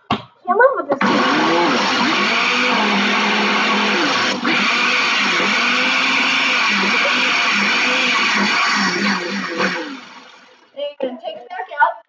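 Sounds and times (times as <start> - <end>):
blender motor running: 1.0 - 10.7.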